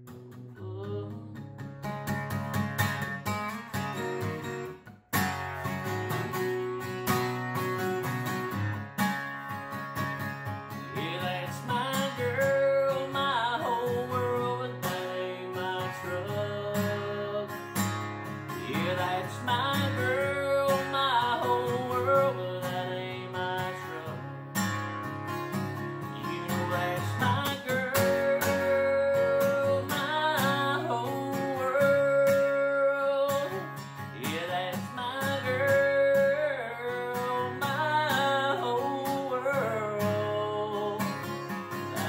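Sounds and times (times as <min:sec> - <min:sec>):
man singing country song: 0:00.0 - 0:04.6, 0:10.6 - 0:42.0
strummed acoustic guitar: 0:00.0 - 0:42.0.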